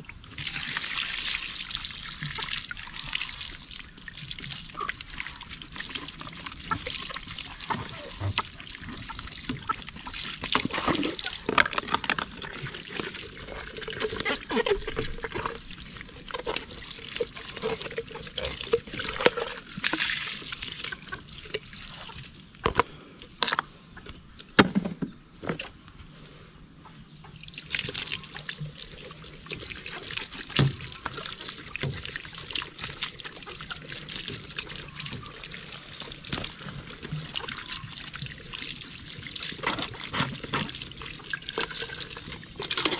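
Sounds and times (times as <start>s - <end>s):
water trickling and splashing: 0.0s - 22.8s, 27.3s - 42.9s.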